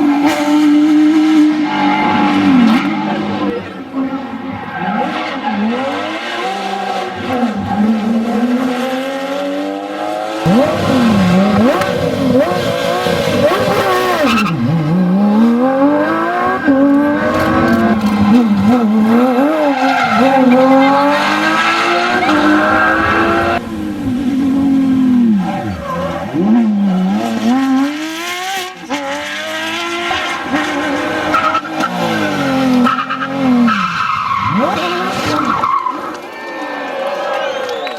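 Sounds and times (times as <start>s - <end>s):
car engines revving through gear changes: 0.0s - 36.2s.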